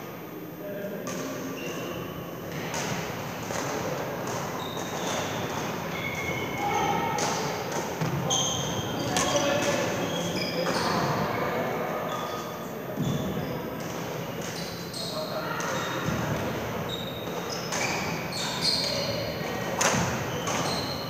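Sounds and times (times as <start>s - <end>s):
shoes squeaking on court floor: 1.1s - 21.0s.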